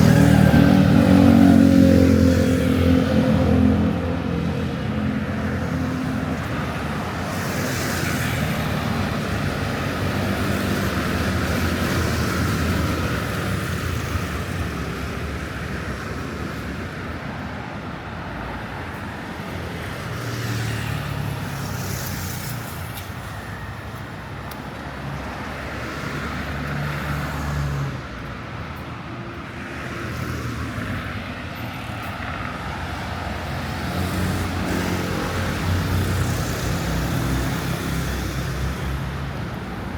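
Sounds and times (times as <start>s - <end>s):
hum of car engines and tyres: 0.0s - 39.9s
vehicles passing by: 0.0s - 39.9s.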